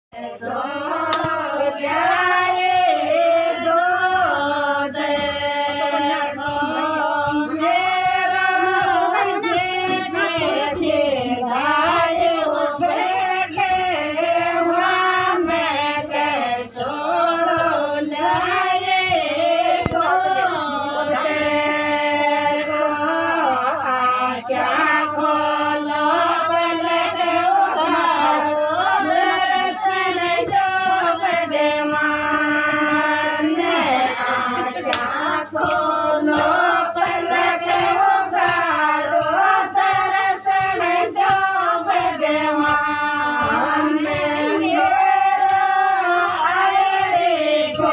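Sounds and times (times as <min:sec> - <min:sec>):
women singing folk song in unison: 0:00.1 - 0:47.9.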